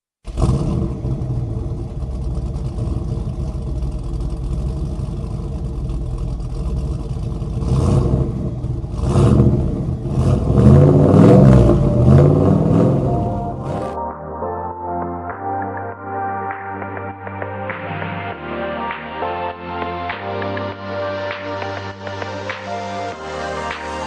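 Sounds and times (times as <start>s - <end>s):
car engine revving: 0.2s - 14.0s, 17.2s - 24.0s.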